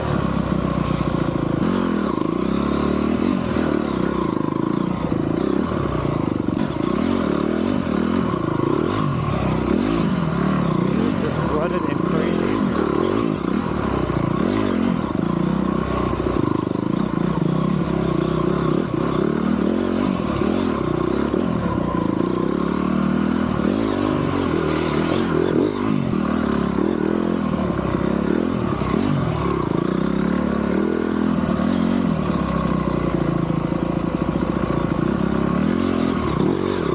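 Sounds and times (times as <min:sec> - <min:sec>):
dirt bike engine running: 0:00.0 - 0:36.9.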